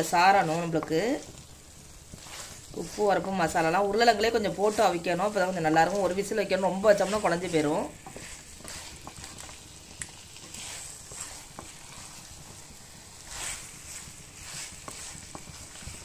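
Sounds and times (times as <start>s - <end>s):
faint sizzle of frying: 0.0s - 16.0s
spatula scraping and tapping pan: 0.0s - 16.0s.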